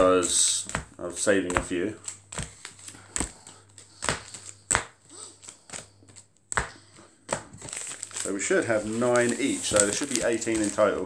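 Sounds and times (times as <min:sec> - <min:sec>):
card packs tapped down: 0:00.3 - 0:11.0.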